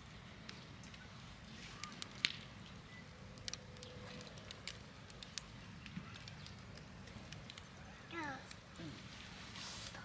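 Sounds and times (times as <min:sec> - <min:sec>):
campfire crackling and popping: 0:00.0 - 0:10.0.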